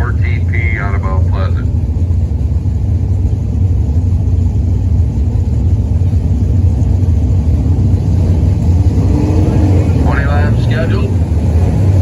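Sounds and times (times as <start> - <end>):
race truck engines rumbling: 0.0 - 12.0.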